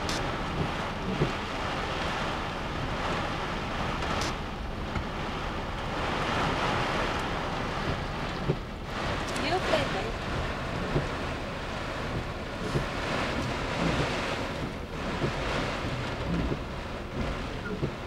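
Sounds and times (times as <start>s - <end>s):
heavy rain on vehicle: 0.0s - 18.0s.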